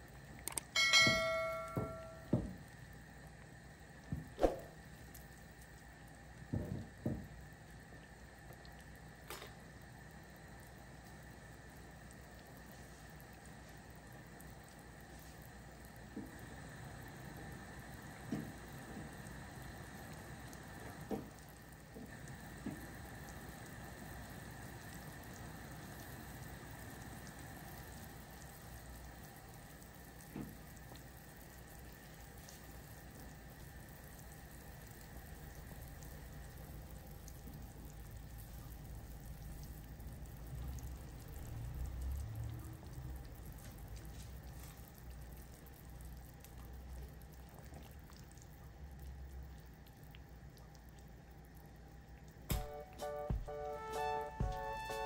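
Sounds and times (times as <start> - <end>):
stock boiling in a pot: 0.0 - 55.0.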